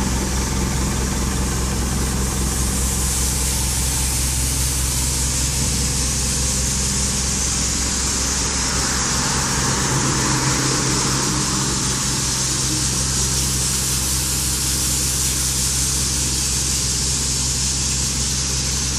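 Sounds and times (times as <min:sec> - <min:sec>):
diesel engine idling: 0:00.0 - 0:18.9
constant hiss: 0:00.1 - 0:18.9.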